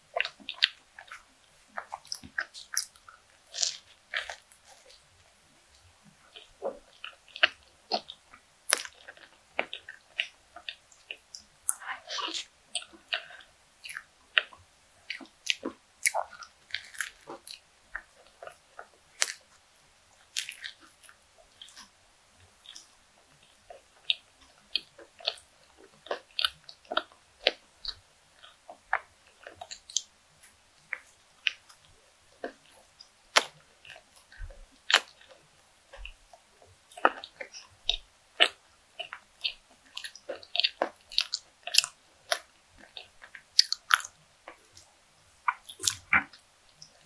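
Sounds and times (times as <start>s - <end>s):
mouth clicks and smacks: 0.1s - 5.0s, 6.2s - 19.6s, 20.2s - 47.0s
person chewing bread: 0.1s - 47.0s.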